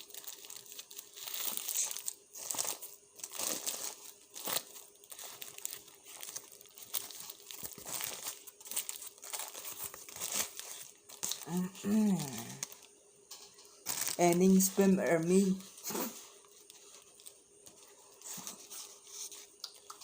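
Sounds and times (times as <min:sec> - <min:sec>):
crinkly chewing: 0:00.0 - 0:20.0.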